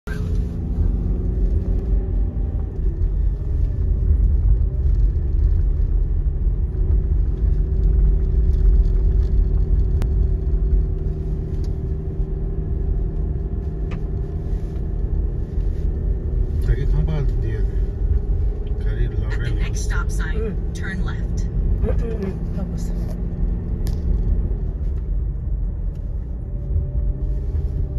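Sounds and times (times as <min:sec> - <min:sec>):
car road noise rumble: 0:00.0 - 0:27.9.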